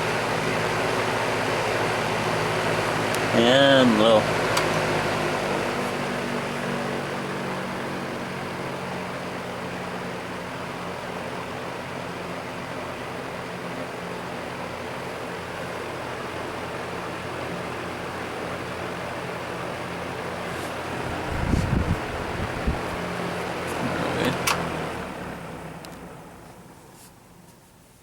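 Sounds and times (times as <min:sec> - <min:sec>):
fan air rush: 0:00.0 - 0:28.0
fan motor hum: 0:00.0 - 0:28.0.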